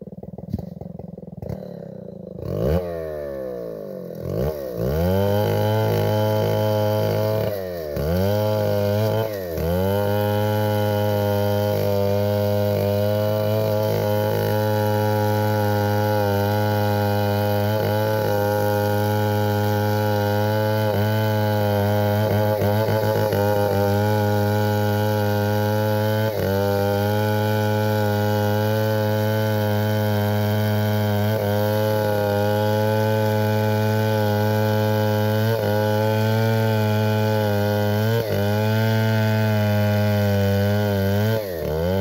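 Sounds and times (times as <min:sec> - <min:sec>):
chainsaw revving: 0:00.0 - 0:42.0.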